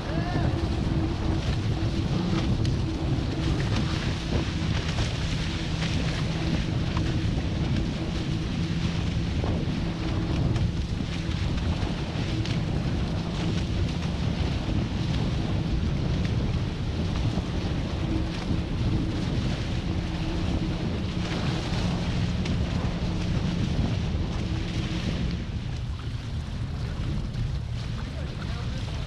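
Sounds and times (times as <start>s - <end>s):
water rushing along hull: 0.0s - 29.0s
wind buffeting microphone: 0.0s - 29.0s.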